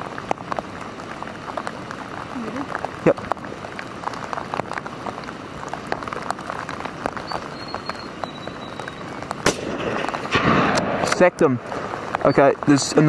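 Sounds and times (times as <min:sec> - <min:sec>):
rain drops ticking: 0:00.0 - 0:13.0.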